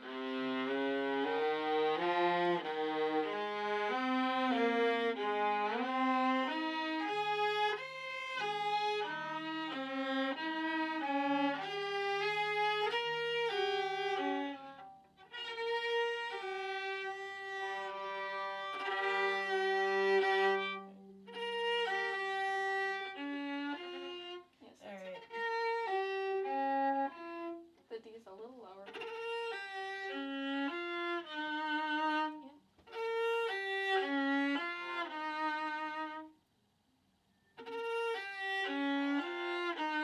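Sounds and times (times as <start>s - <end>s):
violas bowing melody: 0.0s - 36.4s, 37.5s - 40.0s.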